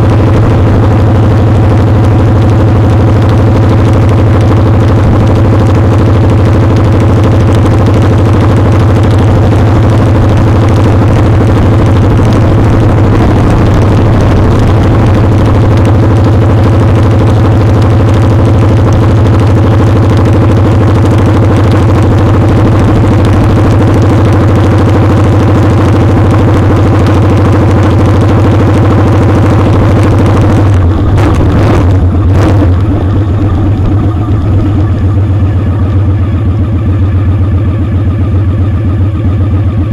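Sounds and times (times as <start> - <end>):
wind and road noise: 0.0 - 36.1
motorcycle engine running: 0.0 - 39.9.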